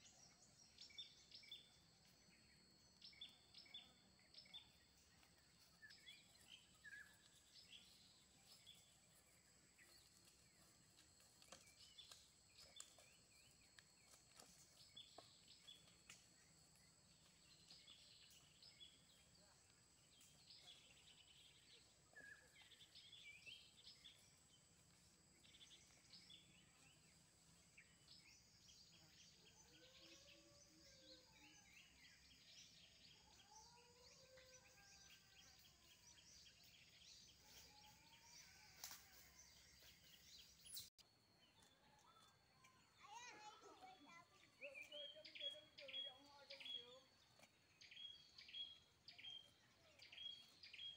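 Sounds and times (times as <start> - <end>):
bird chirps: 0.0 - 10.7, 11.4 - 50.9.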